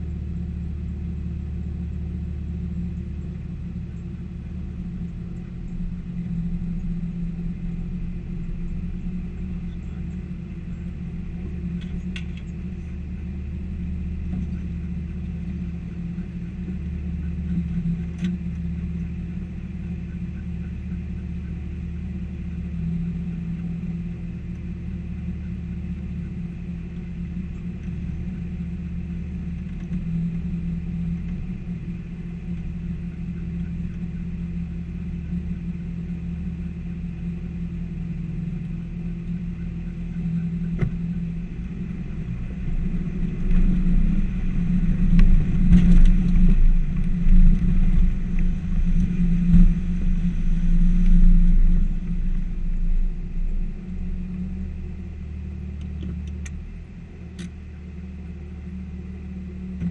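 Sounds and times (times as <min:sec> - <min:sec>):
car engine running: 0:00.0 - 0:59.9
vehicle rumbling and knocking: 0:00.0 - 0:59.9.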